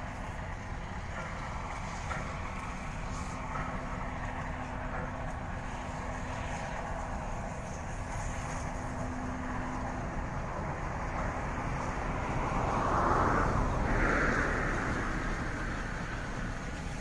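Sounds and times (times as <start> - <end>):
distant train rumble: 0.0 - 17.0
outdoor noise: 0.0 - 17.0
rush of noise: 0.0 - 17.0.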